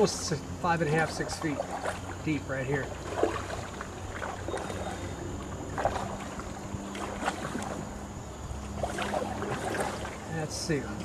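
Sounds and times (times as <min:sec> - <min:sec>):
paddle splashing in water: 0:00.0 - 0:11.0
wind buffeting microphone: 0:00.0 - 0:11.0.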